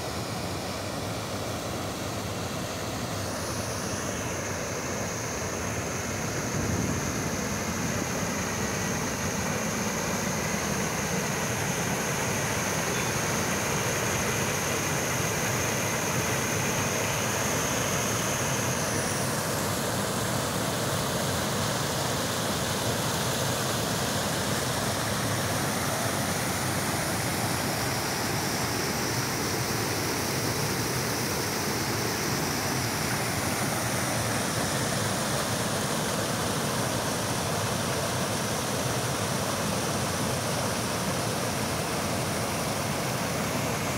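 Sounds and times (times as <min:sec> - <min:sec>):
thin high steady tone: 0:00.0 - 0:43.9
waterfall rushing: 0:00.0 - 0:43.9.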